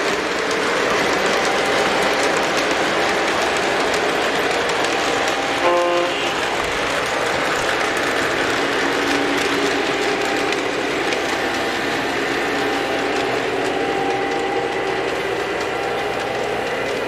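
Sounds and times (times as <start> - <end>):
model train motor whirring: 0.0 - 17.0
wheels clicking on rails: 0.0 - 17.0.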